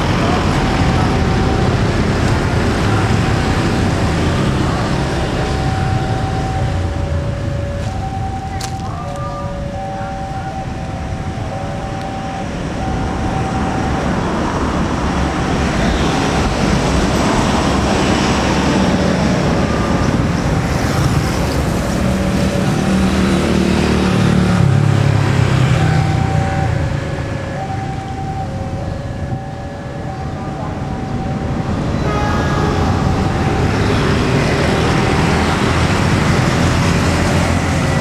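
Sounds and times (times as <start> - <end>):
low locomotive engine drone: 0.0 - 38.0.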